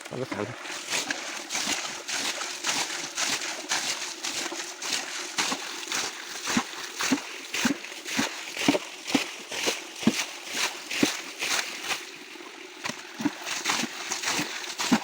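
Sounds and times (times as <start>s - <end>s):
stream water splashing: 0.0s - 15.0s.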